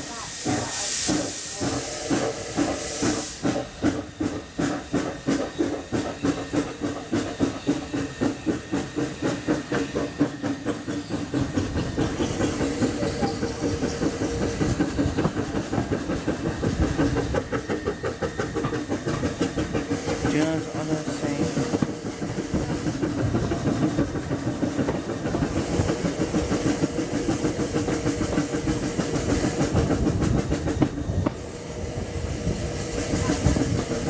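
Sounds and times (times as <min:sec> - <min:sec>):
steam engine exhaust beats: 0:00.0 - 0:34.0
steam hiss: 0:00.0 - 0:34.0.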